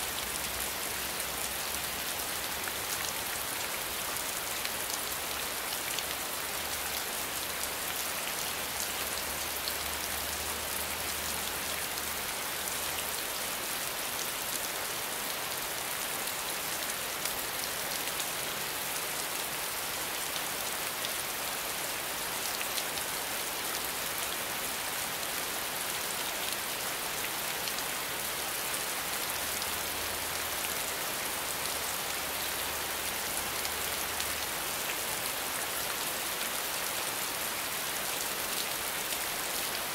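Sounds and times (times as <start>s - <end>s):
rain splashing into puddles: 0.0s - 39.9s.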